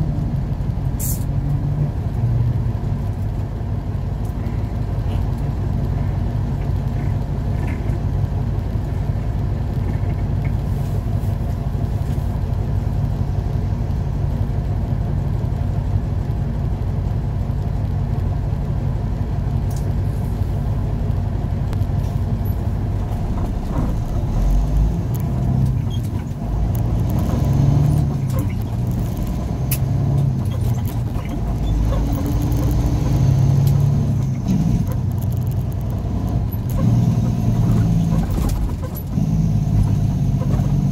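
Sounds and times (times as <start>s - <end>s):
truck accelerating: 0.0s - 40.9s
truck engine idling: 2.7s - 39.2s.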